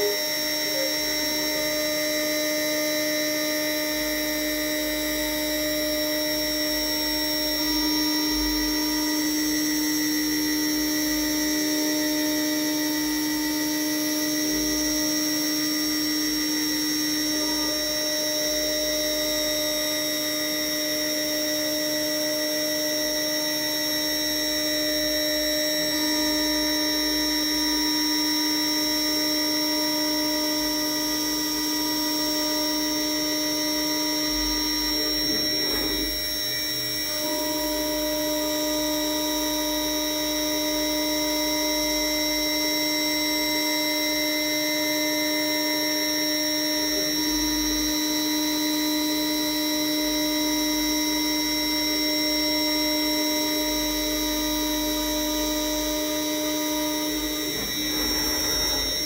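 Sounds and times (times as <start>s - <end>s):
cnc router spindle whine: 0.0s - 59.0s.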